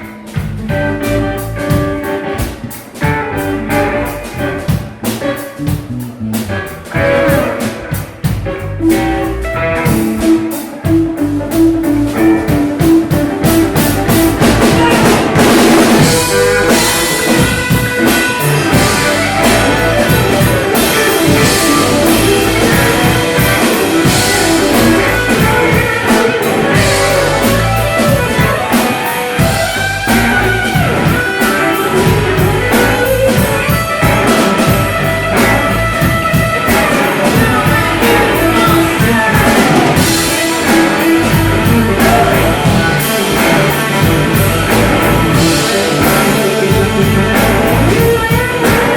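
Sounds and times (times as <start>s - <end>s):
blues-rock music: 0.0s - 48.9s
drum kit beat: 0.0s - 48.9s
electric guitar: 0.0s - 48.9s.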